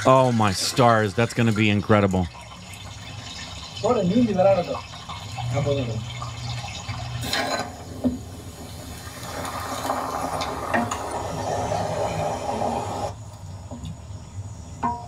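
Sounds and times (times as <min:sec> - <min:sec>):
hot oil sizzling and bubbling: 0:00.0 - 0:13.7.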